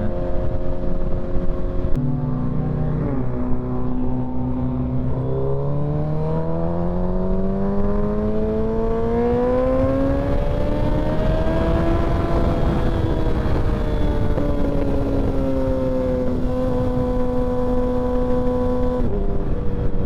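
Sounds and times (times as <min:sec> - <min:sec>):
motorcycle engine accelerating: 0:00.0 - 0:20.0
wind noise: 0:00.0 - 0:20.0.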